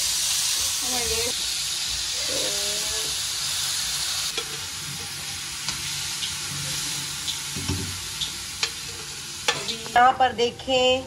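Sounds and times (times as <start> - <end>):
chicken sizzling in hot oil: 0.0 - 10.2.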